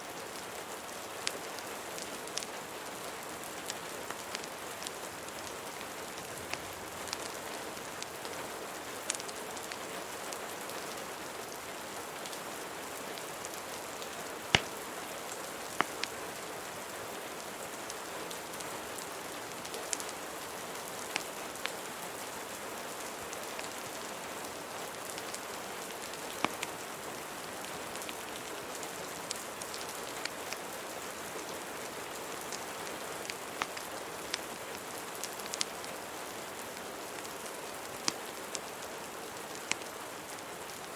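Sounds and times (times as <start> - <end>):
rain hiss: 0.0 - 40.9
wood fire crackling: 0.3 - 16.8, 17.4 - 21.9, 23.1 - 40.9.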